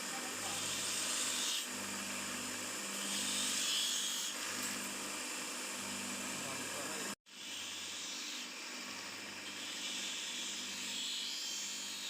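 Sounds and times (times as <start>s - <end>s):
small motor hissing and humming: 0.0s - 12.0s.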